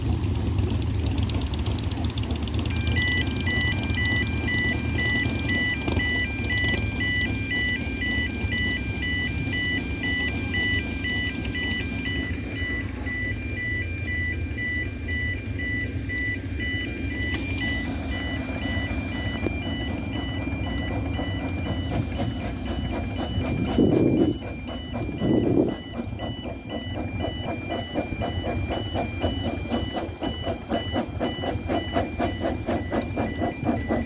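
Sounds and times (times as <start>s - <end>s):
level crossing alarm warbling: 2.0s - 34.0s.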